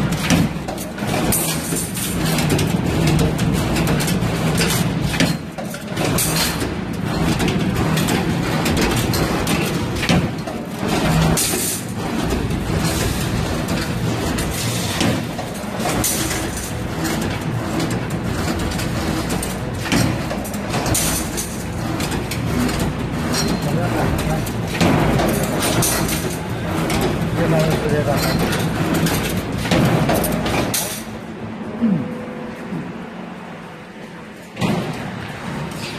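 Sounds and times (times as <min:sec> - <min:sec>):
sharp machine knock: 0:00.0 - 0:31.0
rebar bending machine running: 0:00.0 - 0:35.9.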